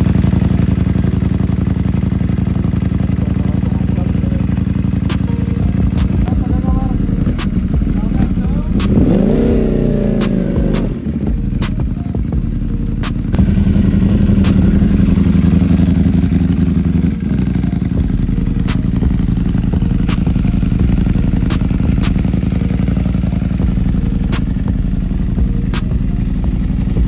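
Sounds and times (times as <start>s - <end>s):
motorcycle engines running loudly: 0.0s - 27.0s.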